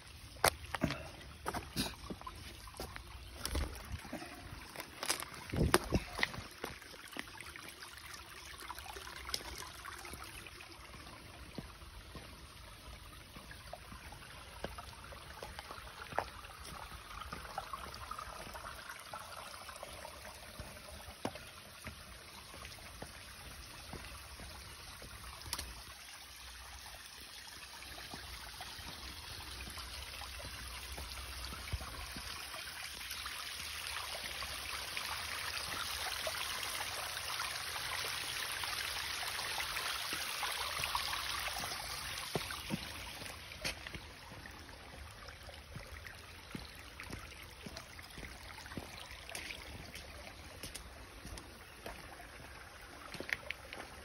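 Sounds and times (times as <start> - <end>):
creek water trickling over rocks: 0.0 - 54.0.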